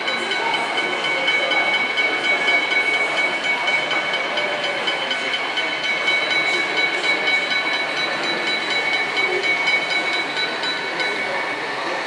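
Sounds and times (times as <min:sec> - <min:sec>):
hall hubbub: 0:00.0 - 0:12.0
model train running: 0:00.0 - 0:12.0.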